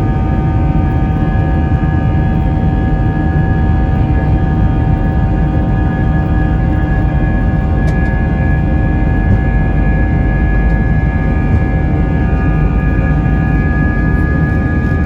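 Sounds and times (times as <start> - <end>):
jet engines rumbling in cabin: 0.0 - 15.0
steady engine whining tones: 0.0 - 15.0.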